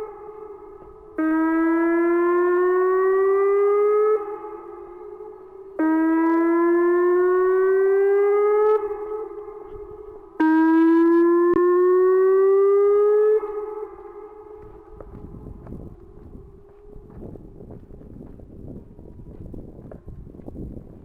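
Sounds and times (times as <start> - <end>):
warning siren whoop tone: 0.0 - 21.0.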